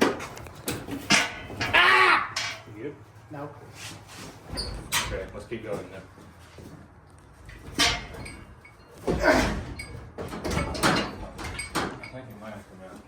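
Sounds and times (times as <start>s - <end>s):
metal tools clanking and scraping: 0.0s - 6.6s, 7.4s - 13.0s.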